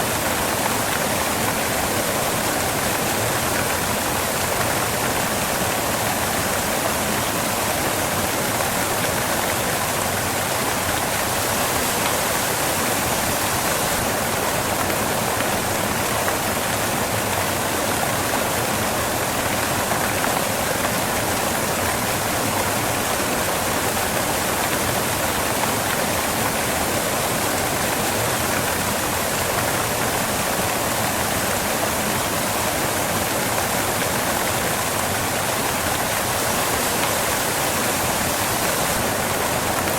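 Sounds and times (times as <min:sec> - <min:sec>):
waterfall crashing onto rocks: 0:00.0 - 0:39.9.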